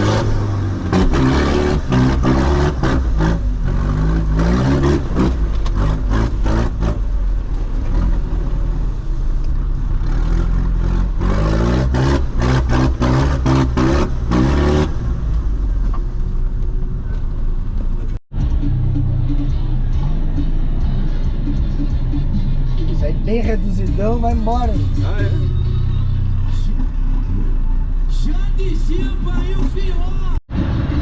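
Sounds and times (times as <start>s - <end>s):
off-road vehicle engine revving: 0.0s - 16.4s, 17.1s - 31.0s.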